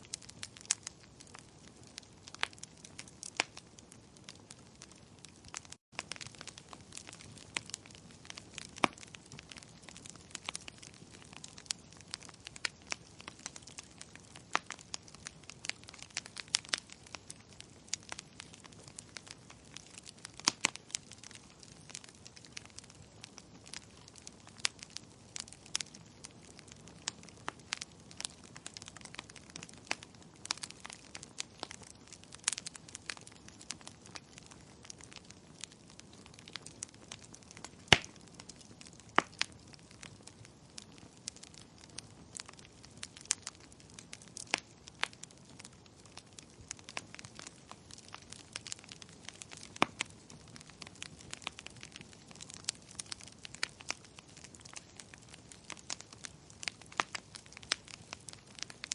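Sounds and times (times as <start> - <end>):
firewood crackling and popping: 0.0 - 58.9
soft hiss of fire: 0.0 - 58.9.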